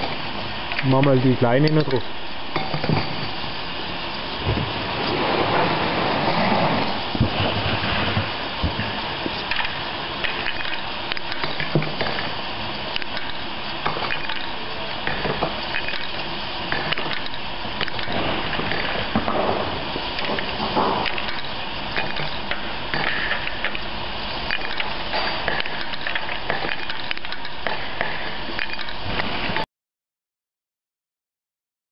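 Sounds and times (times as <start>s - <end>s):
conveyor with clattering closures: 0.0s - 3.4s, 4.4s - 29.6s.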